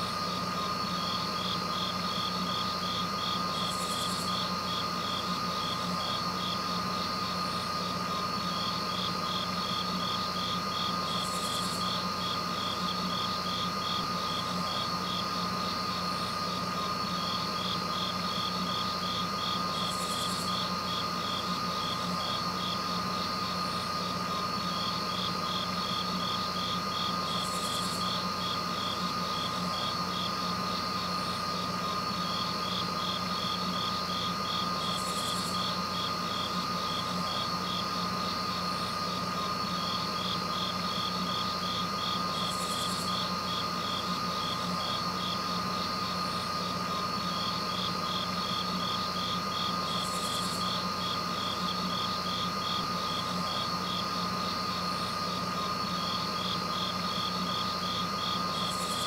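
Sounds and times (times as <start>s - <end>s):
droning hum: 0.0s - 59.0s
rapid chirping pulse: 0.0s - 59.0s.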